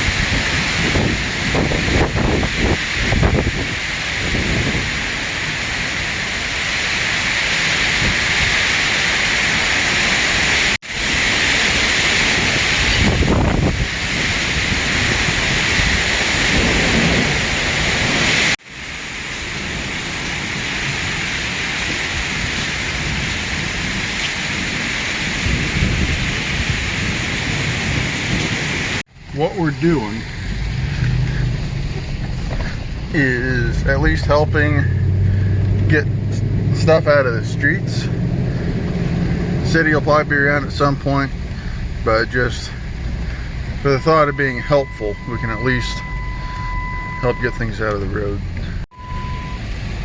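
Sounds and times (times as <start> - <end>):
heavy rain pouring: 0.0 - 50.0
low rumbles: 0.0 - 50.0.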